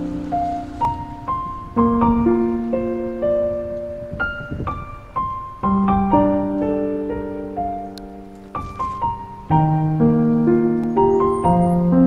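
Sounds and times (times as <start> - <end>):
slow gentle piano music: 0.0 - 12.0.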